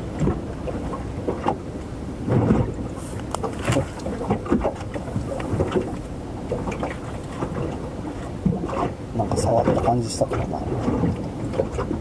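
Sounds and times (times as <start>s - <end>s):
small waves lapping against hull: 0.0s - 12.0s
wind rumble on microphone: 0.0s - 12.0s.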